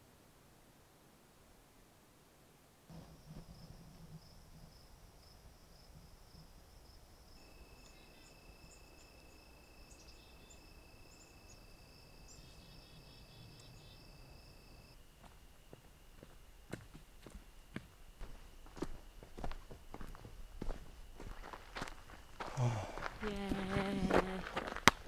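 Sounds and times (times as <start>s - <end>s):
lower insect trill: 2.9s - 24.8s
high insect trill: 2.9s - 25.0s.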